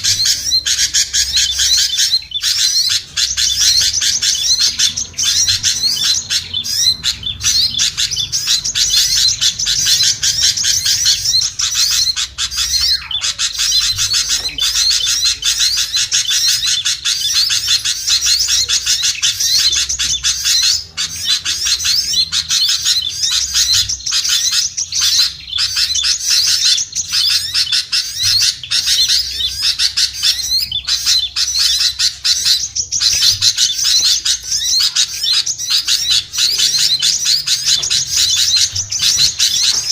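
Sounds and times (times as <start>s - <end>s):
small songbirds chattering and chirping: 0.0s - 39.9s.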